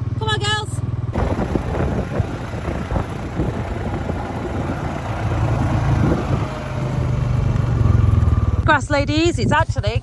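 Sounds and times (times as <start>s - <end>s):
engine running at low revs: 0.0s - 8.7s.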